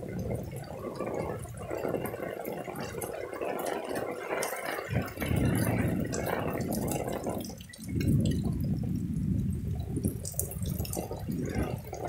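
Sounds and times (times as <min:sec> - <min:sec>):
heavy rain on paving: 0:00.0 - 0:12.0
runoff water running: 0:00.0 - 0:12.0.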